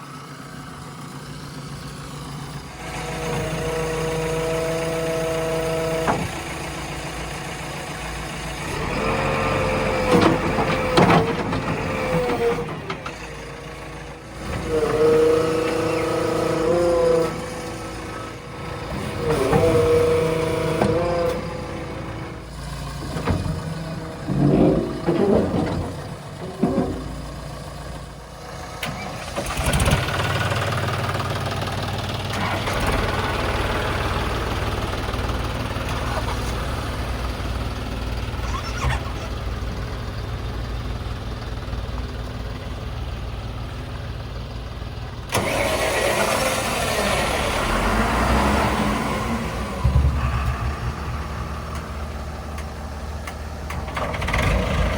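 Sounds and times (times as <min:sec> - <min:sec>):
heavy machinery diesel engine: 0:00.0 - 0:54.9.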